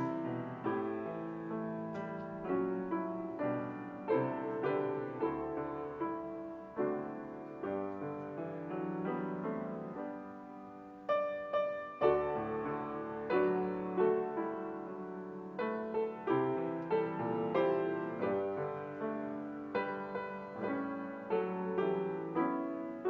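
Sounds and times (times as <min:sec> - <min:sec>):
slow solo piano piece: 0:00.0 - 0:23.0.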